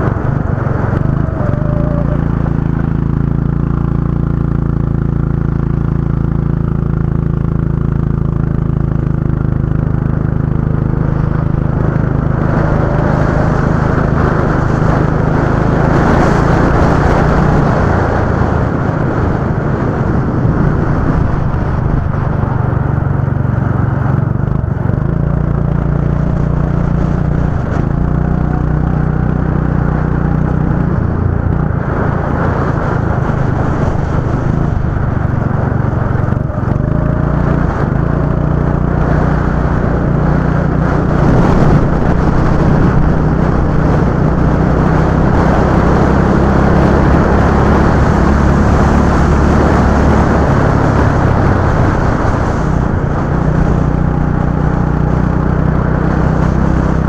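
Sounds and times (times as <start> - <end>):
go-kart engine revving: 0.0 - 57.0
wind and tyre noise: 0.0 - 57.0.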